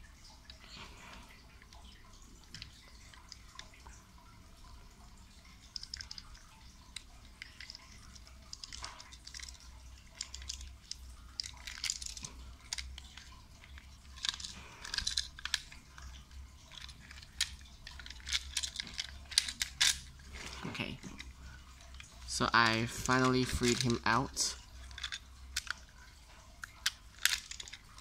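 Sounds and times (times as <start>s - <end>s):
plastic clicks scrapes and rustles: 5.4s - 28.0s.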